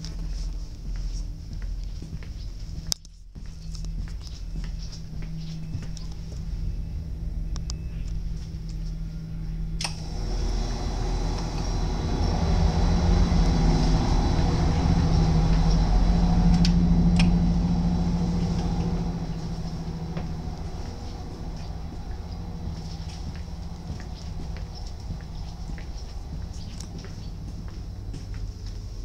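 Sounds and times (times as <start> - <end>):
diesel railcar engine humming: 3.5 - 29.0.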